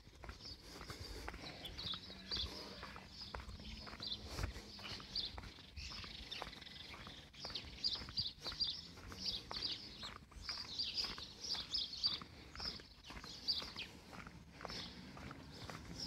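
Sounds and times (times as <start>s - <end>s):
footsteps on pavement: 0.0s - 16.0s
small birds chirping: 0.0s - 16.0s.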